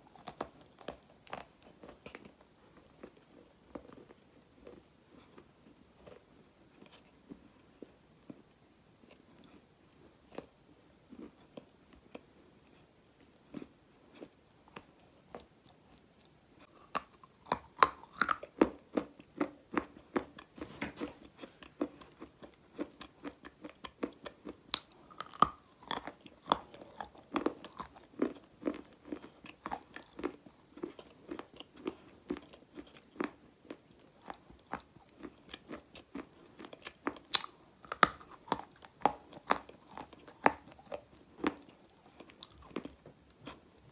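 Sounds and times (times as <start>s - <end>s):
person chewing crunchy clay: 0.0s - 43.9s.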